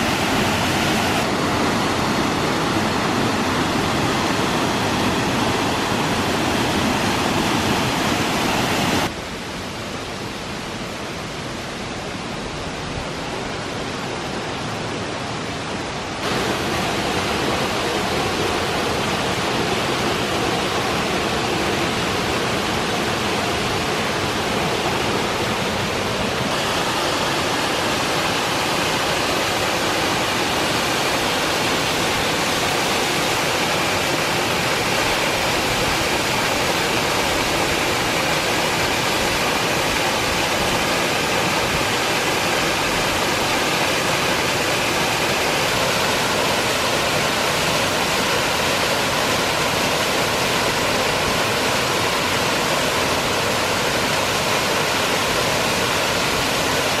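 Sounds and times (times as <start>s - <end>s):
waterfall rushing into a pool: 0.0s - 57.0s.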